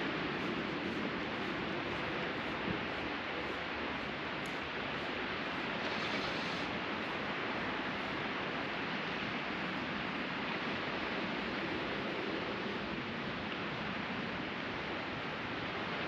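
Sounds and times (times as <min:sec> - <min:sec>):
sea surf breaking on beach: 0:00.0 - 0:16.0.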